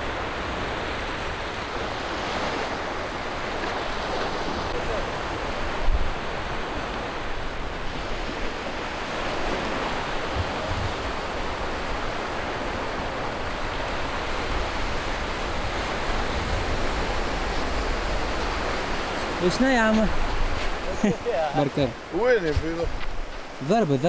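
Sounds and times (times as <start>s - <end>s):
small waves breaking on beach: 0.0s - 24.0s.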